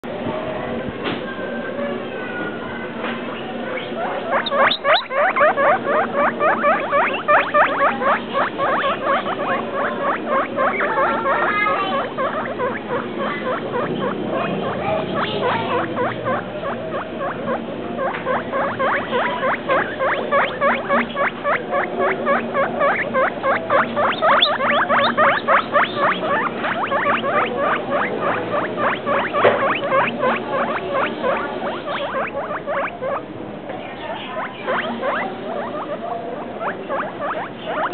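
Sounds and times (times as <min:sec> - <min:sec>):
guinea pigs squeaking: 0:03.3 - 0:37.9.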